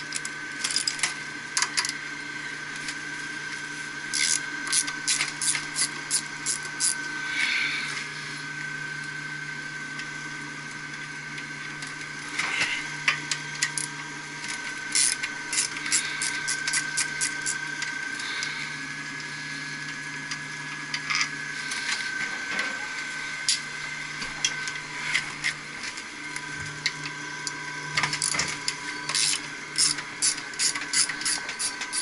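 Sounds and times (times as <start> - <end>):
mechanical hum of equipment: 0.0 - 32.0.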